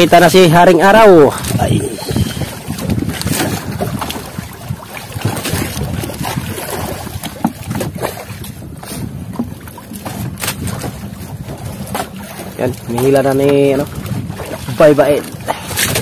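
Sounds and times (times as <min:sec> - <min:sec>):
water noise: 0:00.0 - 0:16.0
wind buffeting microphone: 0:00.0 - 0:16.0.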